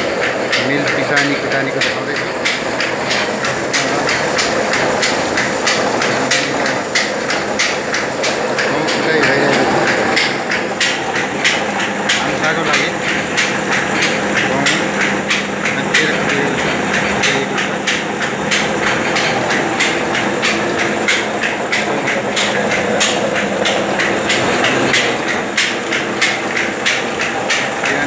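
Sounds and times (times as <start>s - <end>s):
rapid regular knocking: 0.0s - 28.0s
stone grinding mill droning: 0.0s - 28.0s.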